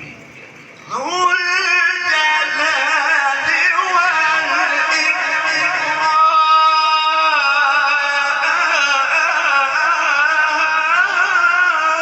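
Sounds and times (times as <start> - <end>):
man reciting melodically: 0.8 - 12.0.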